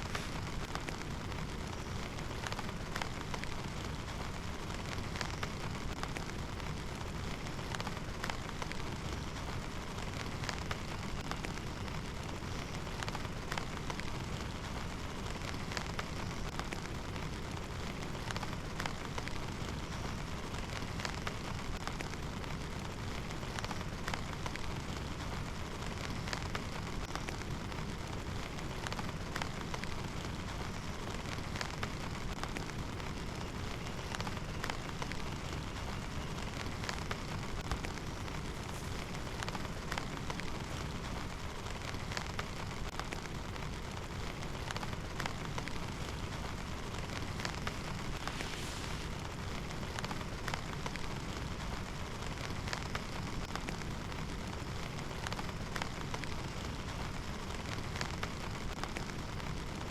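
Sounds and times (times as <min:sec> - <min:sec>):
heavy rain: 0:00.0 - 0:59.9
raindrops ticking on a surface: 0:00.0 - 0:59.9.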